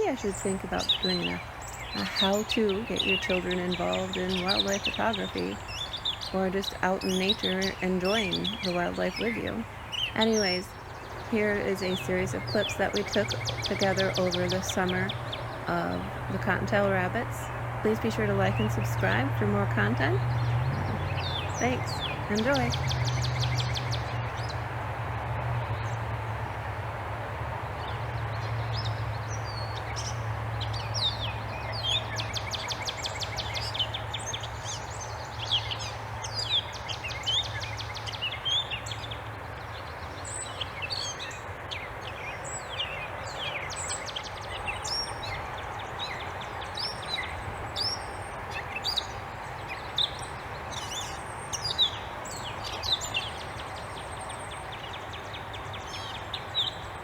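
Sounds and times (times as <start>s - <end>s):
birds chirping: 0.0s - 57.0s
outdoor background hum: 0.0s - 57.0s.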